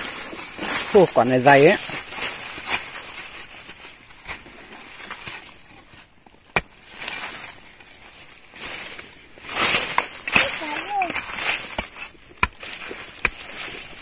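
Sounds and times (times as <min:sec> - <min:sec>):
tool scraping hard soil: 0:00.0 - 0:14.0.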